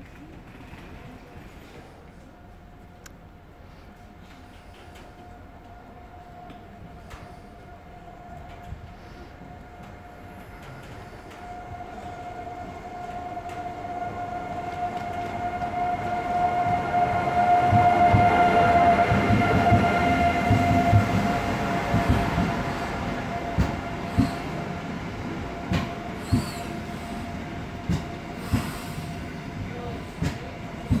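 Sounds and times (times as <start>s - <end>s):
train running noise: 0.0s - 31.0s.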